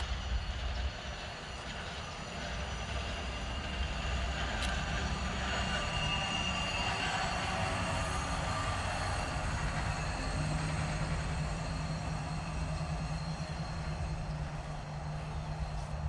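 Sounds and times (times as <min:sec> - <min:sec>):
low hum: 0:00.0 - 0:16.0
train wheels rumbling on rail: 0:00.0 - 0:16.0.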